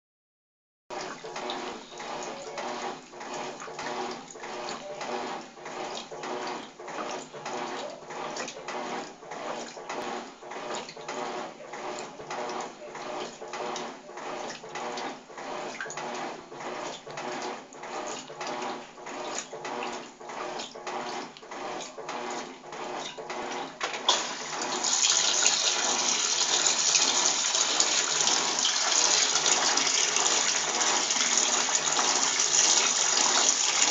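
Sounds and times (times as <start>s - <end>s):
washing machine sloshing water: 0.9s - 33.9s.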